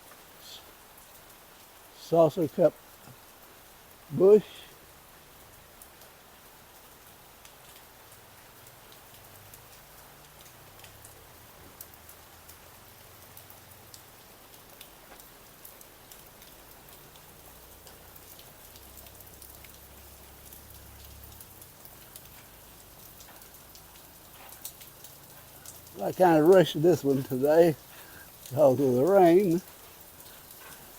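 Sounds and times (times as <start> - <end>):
raindrops ticking on surfaces: 0.0 - 30.9
steady rain falling: 0.0 - 30.9.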